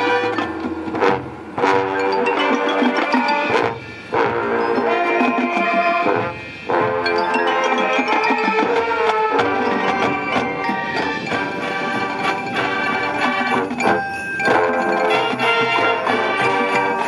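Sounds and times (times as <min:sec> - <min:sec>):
marching band playing: 0:00.0 - 0:17.0
mallet percussion strikes: 0:01.7 - 0:06.3, 0:07.0 - 0:17.0.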